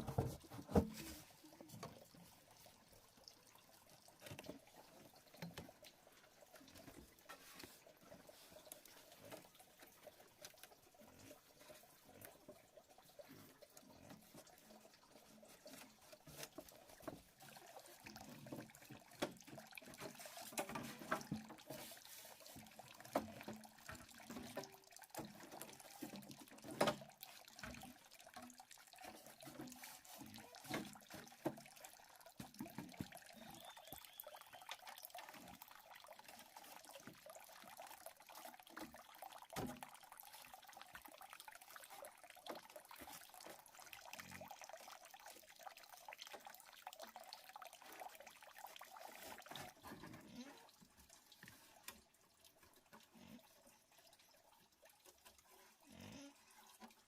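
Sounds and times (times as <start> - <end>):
small splashes and clicks: 0.0 - 57.0
stream water sloshing and trickling: 0.0 - 57.0.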